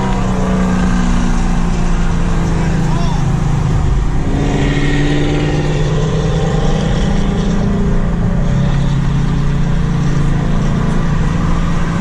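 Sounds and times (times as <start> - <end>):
car engine through loud exhaust: 0.0 - 12.0.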